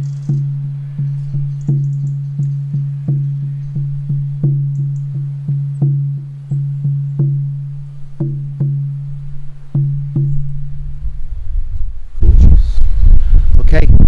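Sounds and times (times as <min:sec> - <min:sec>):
frame drum booming: 0:00.0 - 0:14.0.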